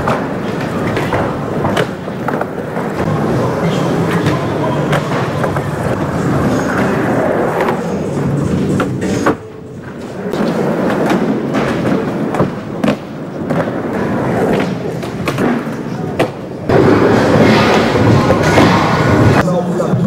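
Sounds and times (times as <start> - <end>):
skateboard wheels rolling: 0.0 - 19.4.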